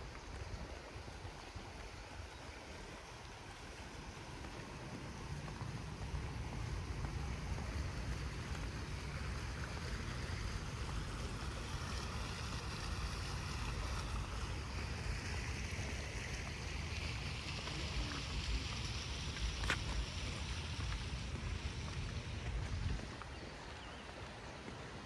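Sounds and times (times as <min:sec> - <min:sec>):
fountain water splashing: 0:00.0 - 0:25.0
wind rumbling on microphone: 0:00.0 - 0:25.0.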